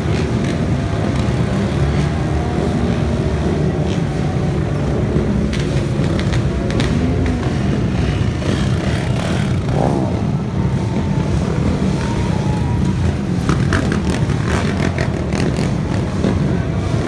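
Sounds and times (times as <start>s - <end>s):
dirt bike engines running: 0.0s - 17.0s.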